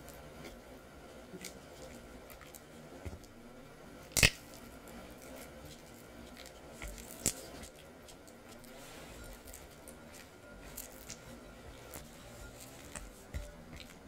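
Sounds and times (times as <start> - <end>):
spatula squishing cream cheese: 1.2 - 3.4, 4.0 - 14.0.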